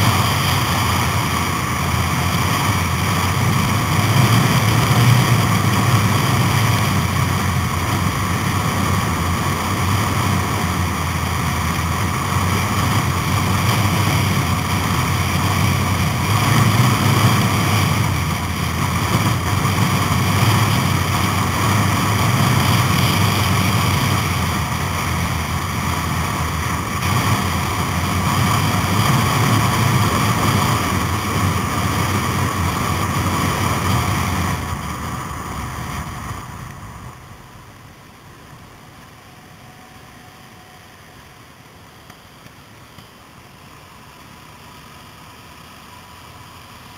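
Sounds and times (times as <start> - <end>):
motorcycle engine droning: 0.0 - 46.9.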